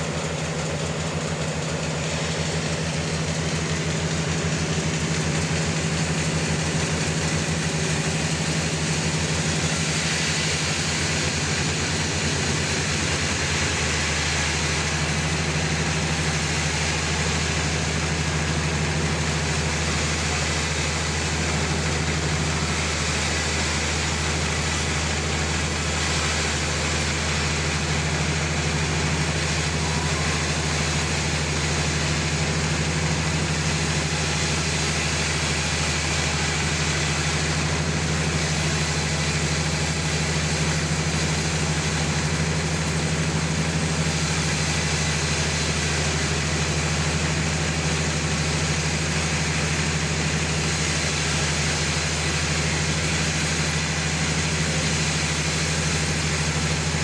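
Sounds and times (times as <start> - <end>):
sawmill engine hum: 0.0 - 57.0.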